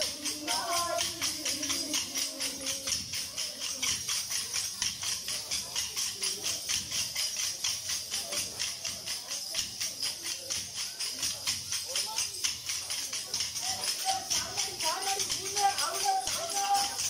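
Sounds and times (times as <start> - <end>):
dance sticks clacking: 0.0 - 17.0.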